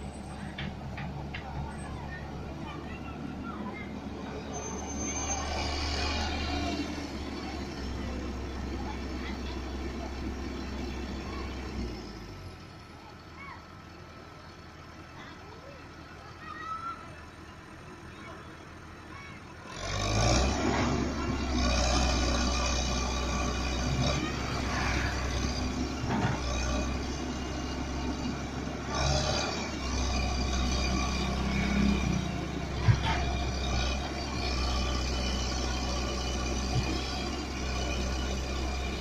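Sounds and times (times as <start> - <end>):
excavator diesel engine droning: 0.0 - 39.0.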